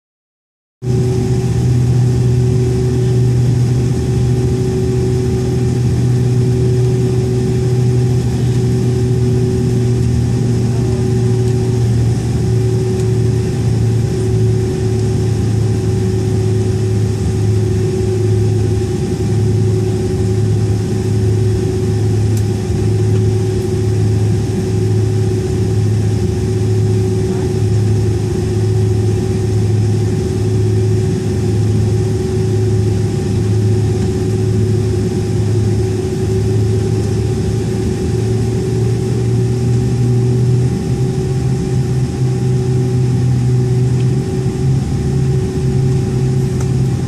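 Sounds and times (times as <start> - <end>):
constant high hum: 0.8 - 47.0
jet engines droning: 0.8 - 47.0.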